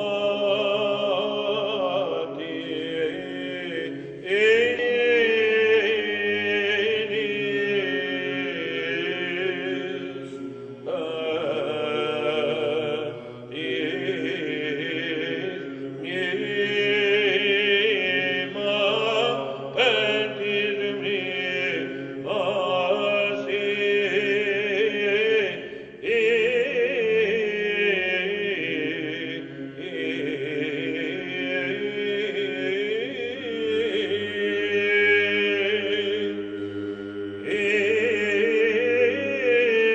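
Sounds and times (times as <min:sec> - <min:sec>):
low held vocal drone: 0:00.0 - 0:39.9.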